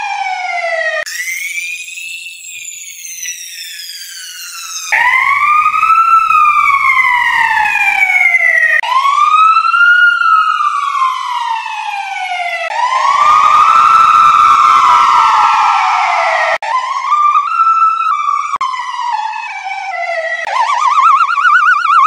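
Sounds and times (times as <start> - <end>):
fire truck wail siren: 0.0 - 22.0.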